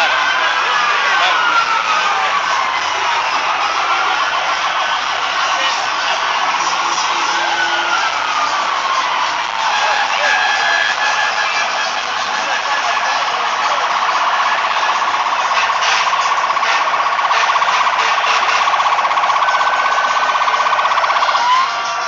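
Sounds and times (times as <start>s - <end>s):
electronic siren warbling: 0.0s - 22.0s
street noise: 0.0s - 22.0s.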